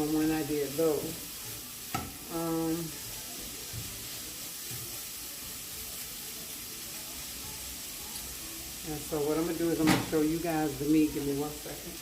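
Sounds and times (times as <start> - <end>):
vegetables sizzling in skillet: 0.0 - 12.0.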